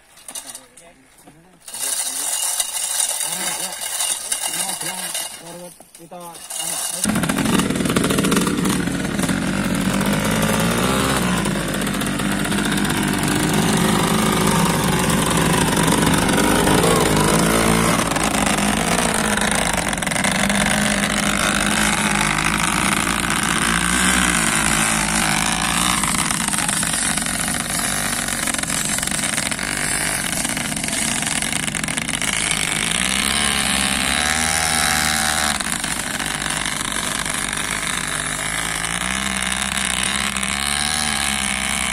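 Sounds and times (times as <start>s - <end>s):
motorcycle engine revving: 6.4s - 41.9s.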